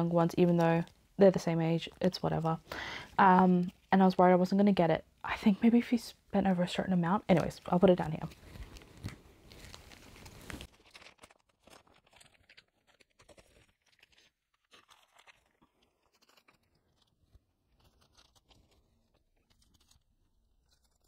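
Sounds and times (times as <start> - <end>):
plastic sleeves crinkling: 0.0 - 4.2, 6.6 - 21.0.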